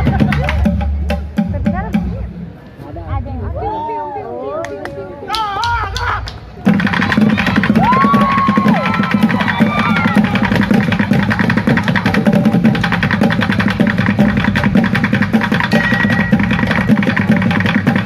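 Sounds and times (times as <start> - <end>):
music with fast percussion beat: 0.0 - 2.4, 5.3 - 18.0.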